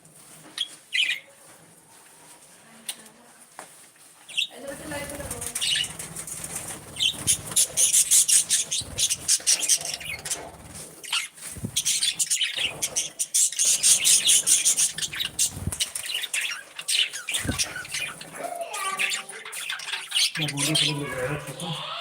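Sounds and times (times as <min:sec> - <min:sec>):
budgies chirping and chattering: 0:00.5 - 0:01.5, 0:04.3 - 0:22.0.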